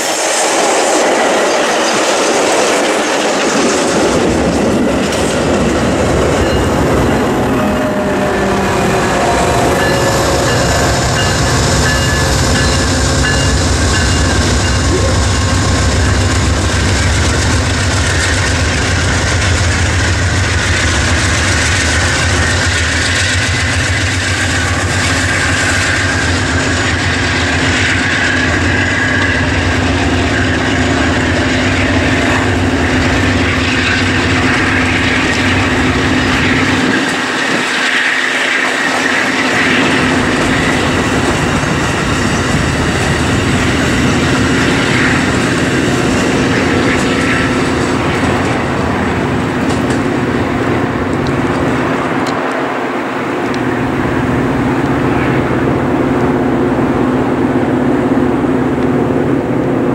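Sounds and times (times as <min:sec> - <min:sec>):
diesel locomotive rumble: 0:00.0 - 0:59.9
train wheels clattering on rails: 0:00.0 - 0:59.9.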